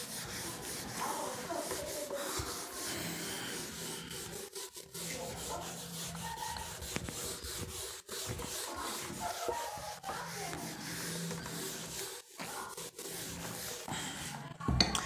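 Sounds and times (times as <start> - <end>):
scratchy rubbing noise: 0.0 - 14.4.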